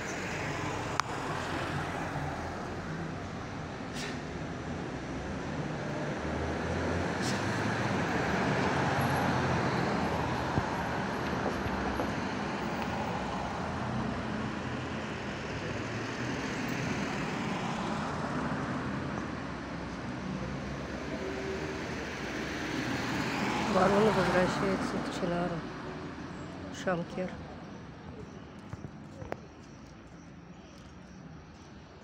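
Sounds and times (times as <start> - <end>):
road traffic rumble and hiss: 0.0 - 32.0.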